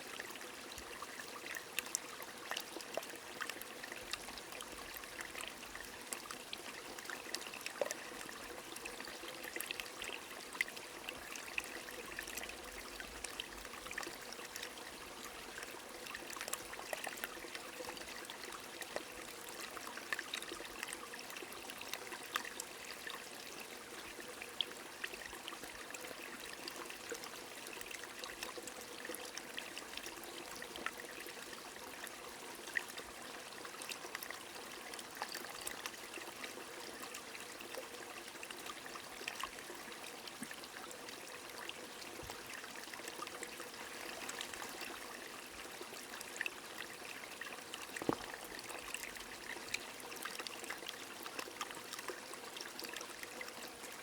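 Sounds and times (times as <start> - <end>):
flowing stream: 0.0 - 54.0.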